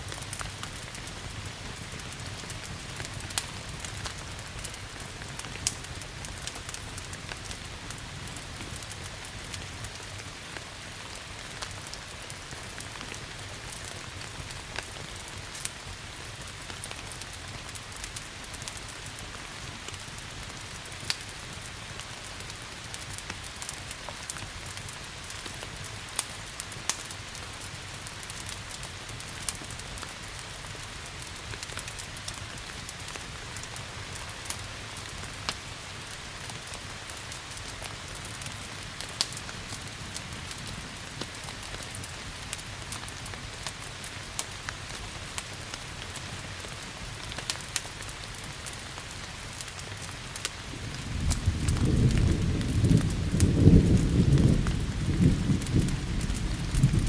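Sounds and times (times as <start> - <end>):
steady rain hiss: 0.0 - 57.0
wood fire crackling and popping: 0.0 - 57.0.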